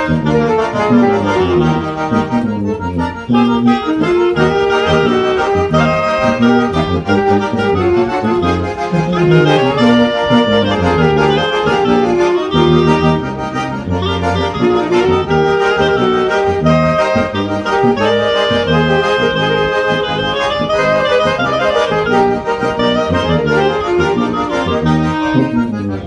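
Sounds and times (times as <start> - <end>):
accordion chords: 0.0 - 26.0
reed melody: 0.0 - 26.0
tuba bass line: 0.0 - 26.0.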